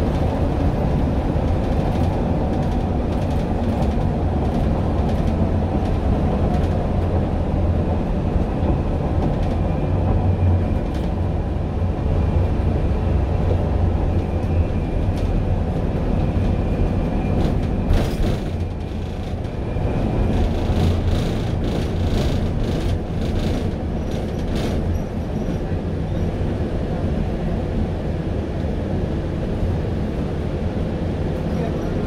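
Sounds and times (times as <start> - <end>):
bus engine and wheels rumbling: 0.0 - 32.0.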